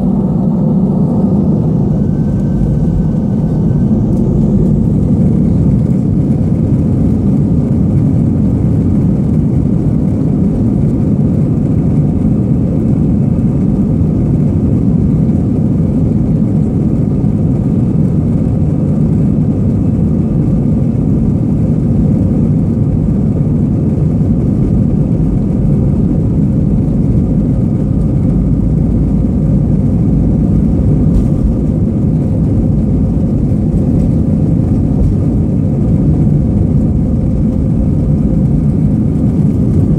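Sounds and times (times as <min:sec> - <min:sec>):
faint engine whine: 0:00.0 - 0:39.9
jet engine rumble: 0:00.0 - 0:39.9.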